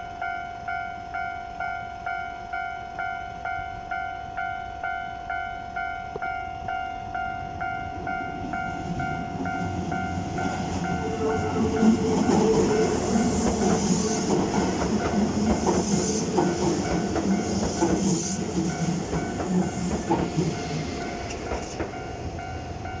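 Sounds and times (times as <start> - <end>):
crossing warning bell ringing: 0.0 - 23.0
train rumble and wheel clatter: 0.0 - 23.0.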